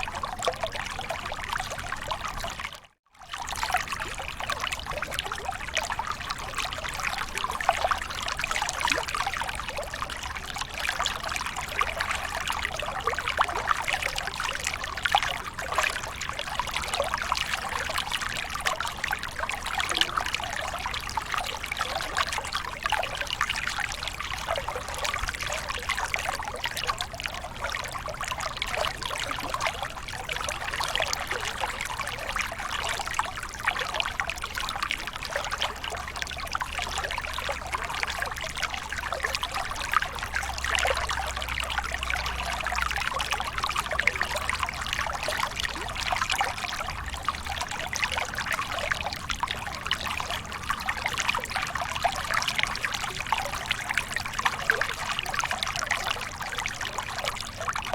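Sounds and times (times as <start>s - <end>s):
small water splashes: 0.0s - 57.9s.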